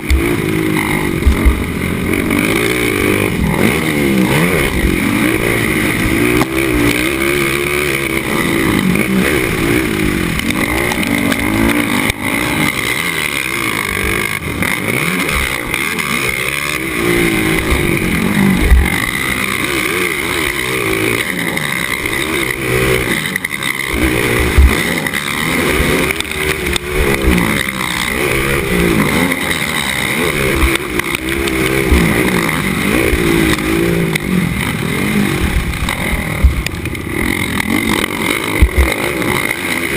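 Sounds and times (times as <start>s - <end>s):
sharp thumps: 0.0s - 34.8s, 35.4s - 39.9s
atv engine revving: 0.0s - 39.9s.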